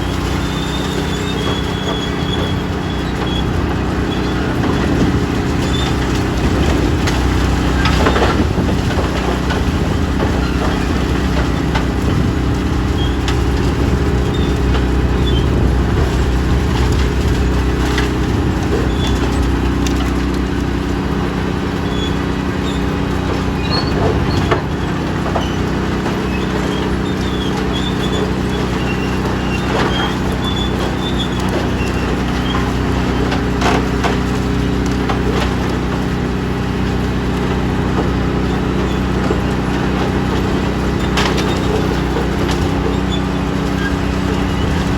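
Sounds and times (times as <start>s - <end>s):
diesel engine running: 0.0s - 44.9s
metallic squeaks and clanks: 0.0s - 44.9s.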